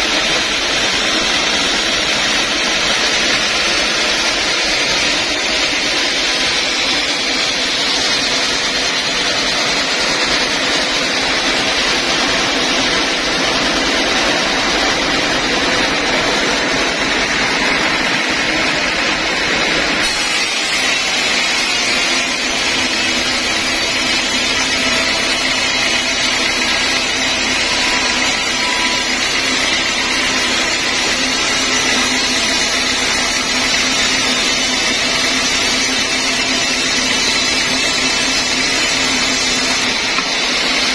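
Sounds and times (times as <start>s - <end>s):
band saw cutting log: 0.0s - 19.3s, 20.0s - 40.9s.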